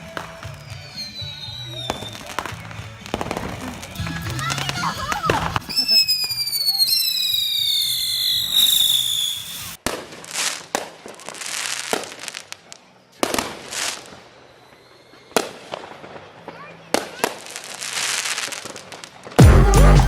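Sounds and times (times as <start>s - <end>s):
fireworks bangs and crackling: 0.0s - 20.0s
whistling rockets: 0.0s - 20.0s.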